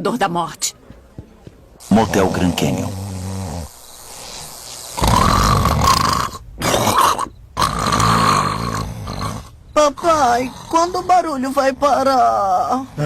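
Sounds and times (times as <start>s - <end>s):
cartoon snoring: 1.9s - 13.0s.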